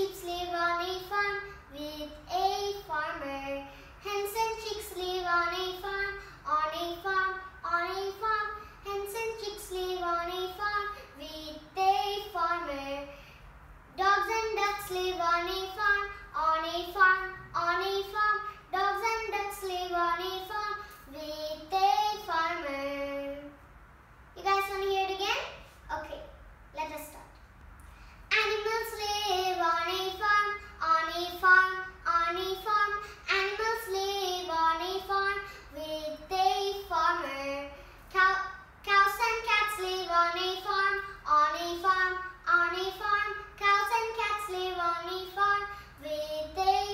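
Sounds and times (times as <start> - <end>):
girl singing: 0.0 - 23.6, 24.4 - 26.2, 28.3 - 46.9.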